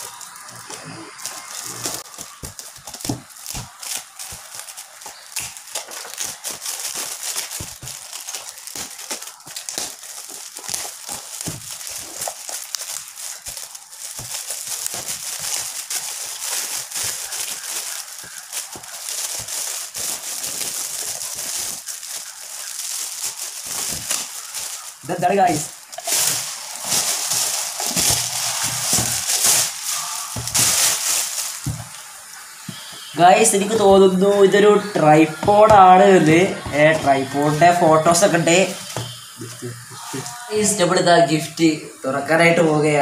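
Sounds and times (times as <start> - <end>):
foil gift wrap crinkling and tearing: 0.0 - 43.0.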